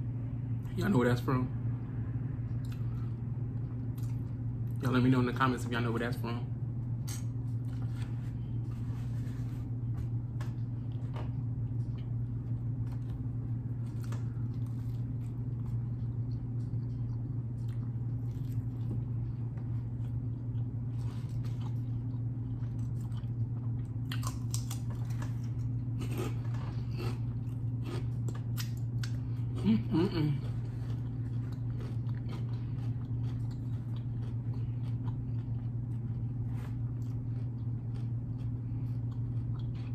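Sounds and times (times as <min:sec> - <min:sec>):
steady low hum: 0:00.0 - 0:39.9
man chewing food: 0:02.4 - 0:04.8, 0:06.8 - 0:39.9.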